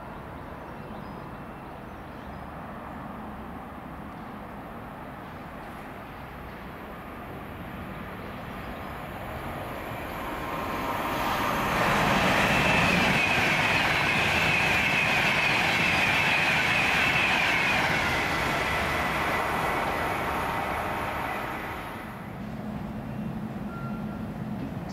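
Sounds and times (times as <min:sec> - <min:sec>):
train passing: 0:02.4 - 0:24.9.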